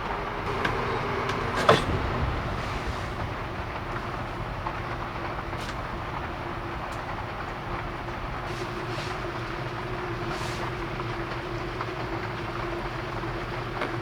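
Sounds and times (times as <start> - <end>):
vehicle engine drone: 0.0 - 13.9
road noise: 0.0 - 14.0.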